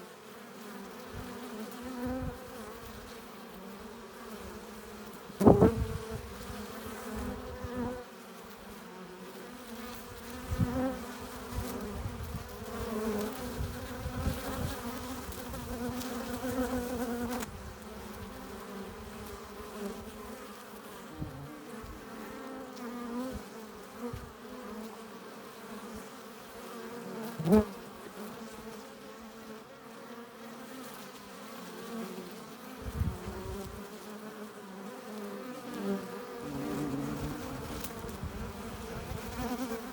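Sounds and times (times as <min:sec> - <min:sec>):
honeybees buzzing: 0:00.0 - 0:39.9.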